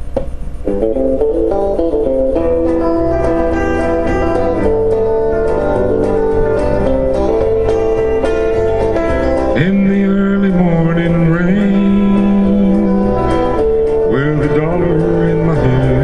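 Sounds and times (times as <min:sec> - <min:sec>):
bass line: 0:00.0 - 0:16.0
picked guitar notes: 0:00.0 - 0:16.0
steady beat: 0:00.0 - 0:16.0.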